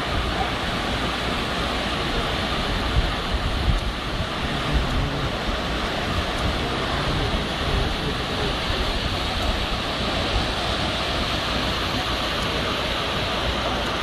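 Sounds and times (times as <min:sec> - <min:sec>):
floodwater rushing: 0:00.0 - 0:14.0
wind on microphone: 0:00.0 - 0:14.0.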